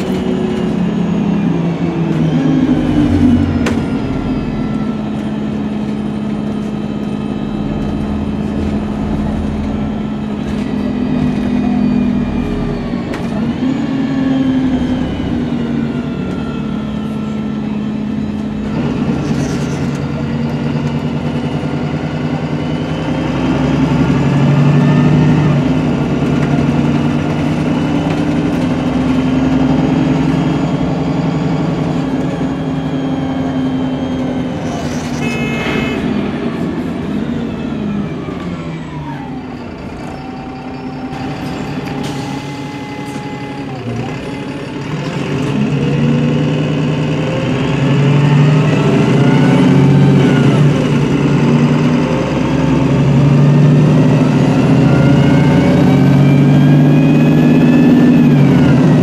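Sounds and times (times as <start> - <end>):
bus engine: 0.0 - 59.0
drivetrain whine: 0.0 - 59.0.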